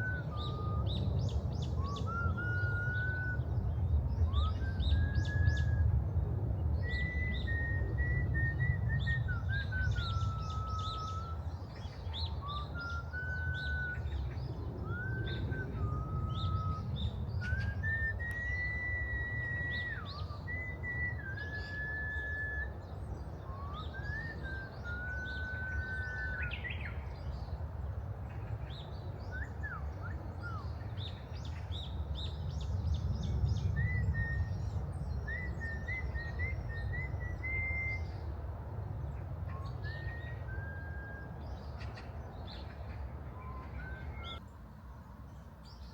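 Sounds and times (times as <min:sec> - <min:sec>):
whistled bird call: 0:00.0 - 0:06.2, 0:06.8 - 0:27.5, 0:28.7 - 0:38.3, 0:39.0 - 0:44.4.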